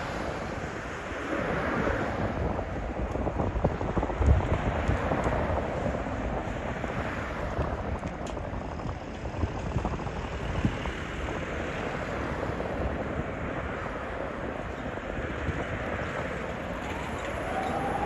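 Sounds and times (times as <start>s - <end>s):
street traffic rumble and hiss: 0.0s - 18.0s.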